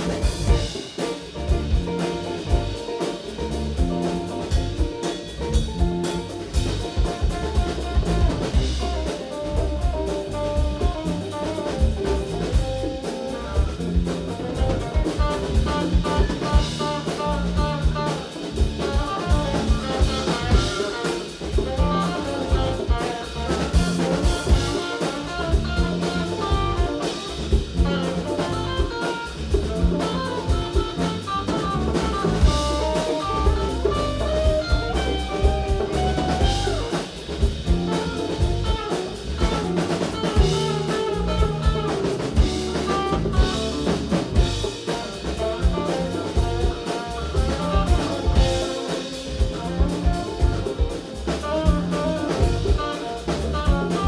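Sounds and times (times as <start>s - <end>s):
drum kit beat: 0.0s - 54.0s
live rock band playing: 0.0s - 54.0s
melodic lead guitar line: 0.0s - 54.0s.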